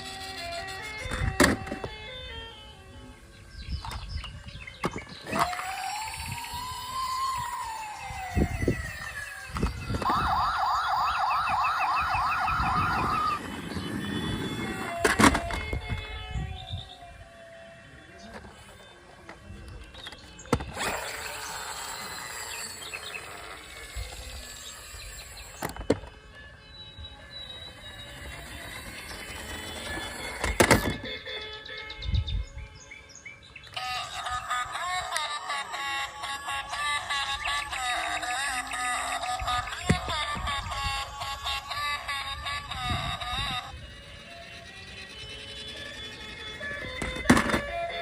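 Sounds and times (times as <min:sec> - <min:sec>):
toy siren warbling: 0:00.0 - 0:03.3, 0:04.3 - 0:18.8, 0:19.5 - 0:32.4, 0:33.7 - 0:48.0
music with held tones: 0:00.0 - 0:20.5, 0:23.4 - 0:48.0.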